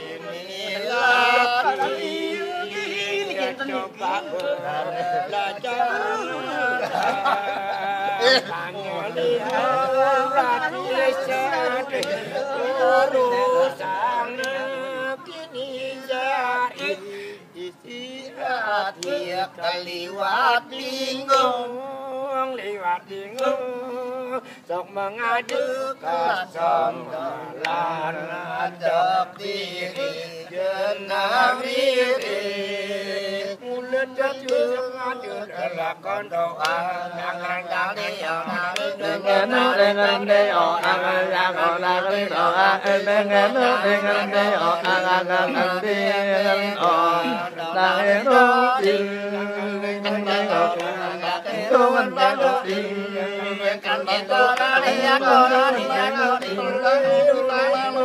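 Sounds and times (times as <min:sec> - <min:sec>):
men chanting and singing: 0:00.0 - 0:58.0.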